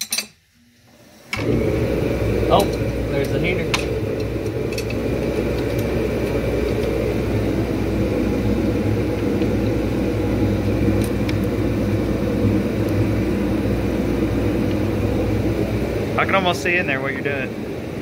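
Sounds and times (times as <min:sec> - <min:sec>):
low machine drone: 0:01.3 - 0:18.0.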